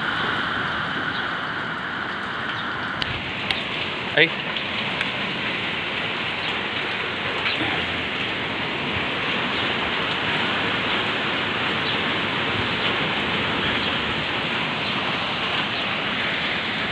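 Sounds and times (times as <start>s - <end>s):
heavy rain in strong wind: 0.0s - 16.9s.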